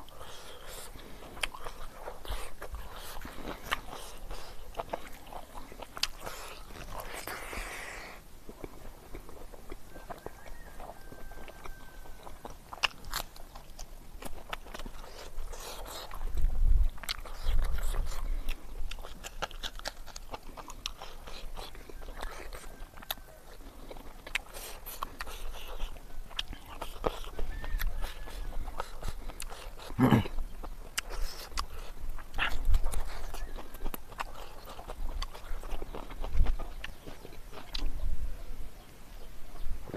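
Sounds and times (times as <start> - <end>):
lip smacks: 0.0 - 23.3, 23.9 - 38.0
crunchy bites: 0.0 - 38.0
person chewing wetly: 0.0 - 38.1.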